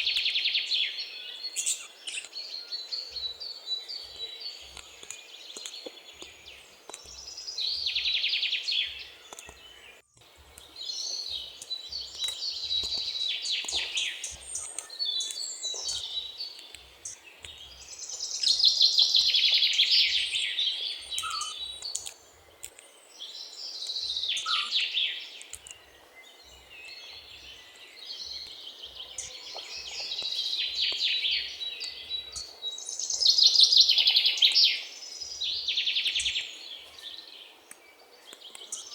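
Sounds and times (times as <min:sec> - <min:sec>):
great tit singing: 0:00.0 - 0:38.9.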